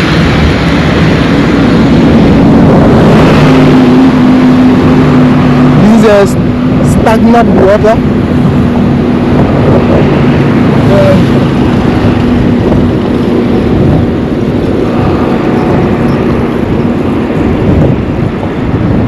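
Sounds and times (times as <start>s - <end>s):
vehicle engine hum: 0.0s - 19.0s
wind rumbling on microphone: 0.0s - 19.0s.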